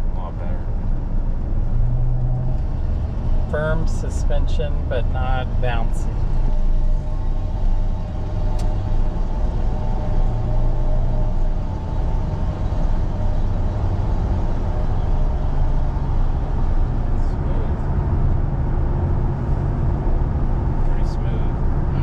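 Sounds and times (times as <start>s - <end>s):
road noise inside truck cab: 0.0s - 22.0s.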